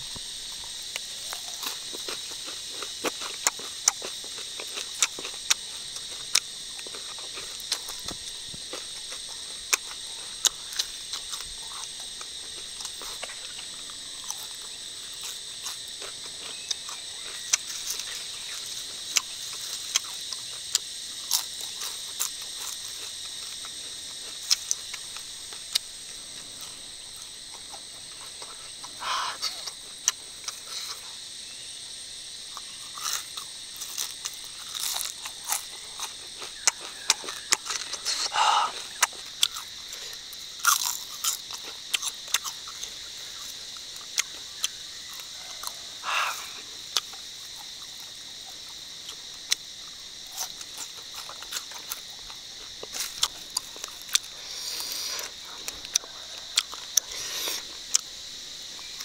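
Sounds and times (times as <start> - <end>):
crunchy chewing: 0.0 - 59.0
high-pitched insect drone: 0.0 - 59.0.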